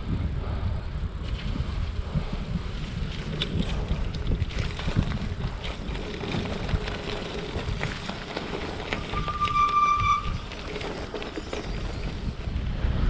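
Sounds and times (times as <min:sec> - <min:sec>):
wind buffeting microphone: 0:00.0 - 0:13.0
bicycle clicks and rattles: 0:01.3 - 0:12.7.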